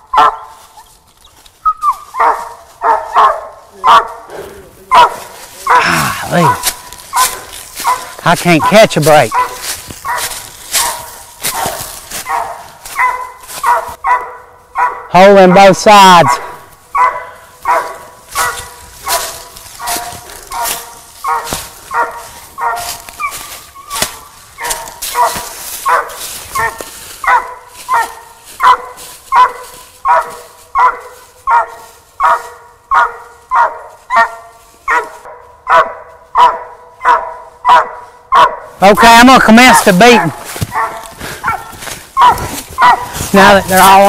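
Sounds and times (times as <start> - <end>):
dog barking: 0.0 - 0.8, 1.9 - 44.0.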